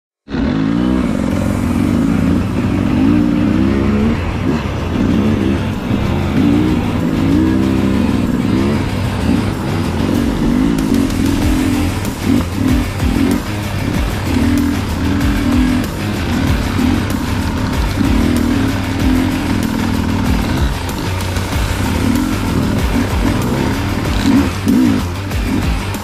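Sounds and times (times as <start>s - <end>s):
dirt bike engines revving: 0.3s - 26.0s.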